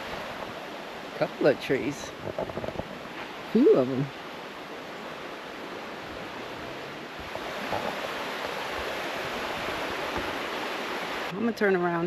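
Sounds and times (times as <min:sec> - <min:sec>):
flowing creek water: 0:00.0 - 0:12.0.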